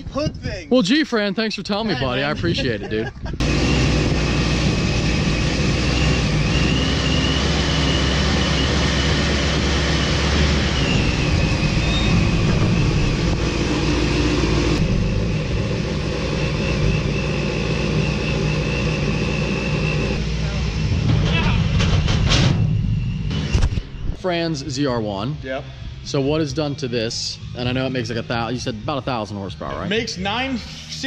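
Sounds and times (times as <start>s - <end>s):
high-pitched whine: 0.2s - 31.0s
vehicle engine running: 1.7s - 31.0s.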